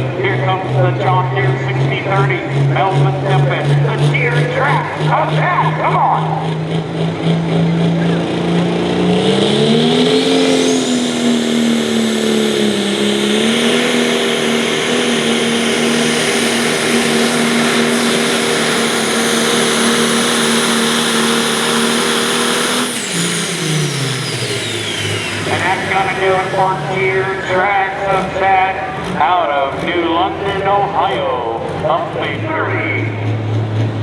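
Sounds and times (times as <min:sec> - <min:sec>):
diesel tractor engine at full throttle: 0:00.0 - 0:34.0
high turbo whine: 0:00.0 - 0:34.0.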